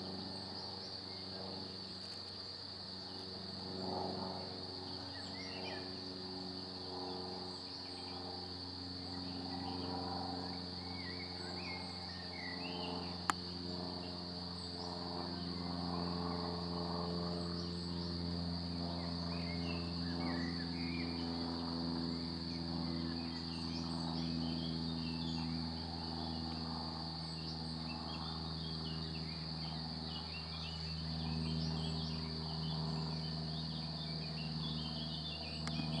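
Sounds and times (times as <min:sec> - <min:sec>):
low wavering hum: 0:00.0 - 0:36.0.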